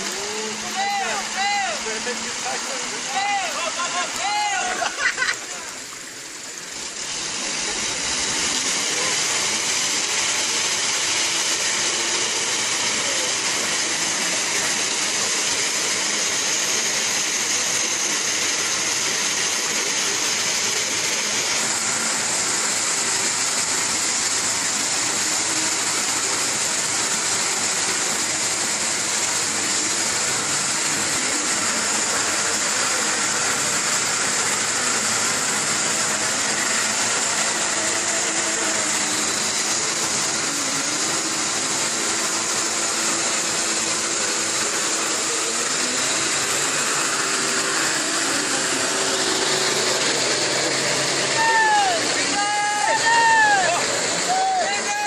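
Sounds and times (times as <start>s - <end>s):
truck engine revving hard: 6.6s - 55.0s.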